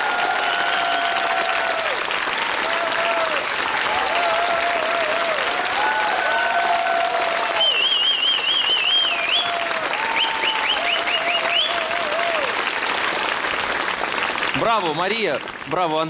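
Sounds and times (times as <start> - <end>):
people cheering: 0.0 - 13.8
audience applauding: 0.0 - 16.0.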